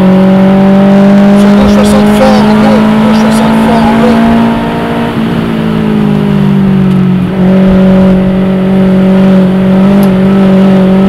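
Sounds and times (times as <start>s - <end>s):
car engine at speed: 0.0s - 11.0s.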